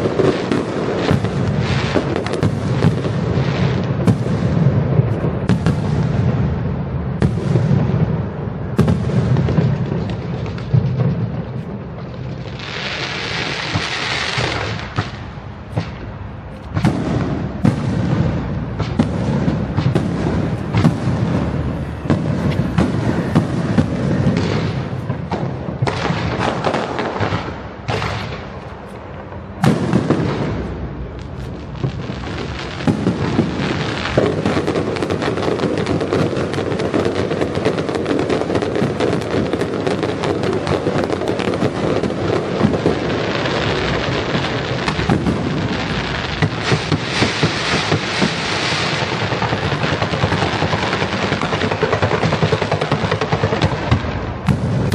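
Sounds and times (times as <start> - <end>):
fireworks bangs and crackling: 0.0 - 54.9.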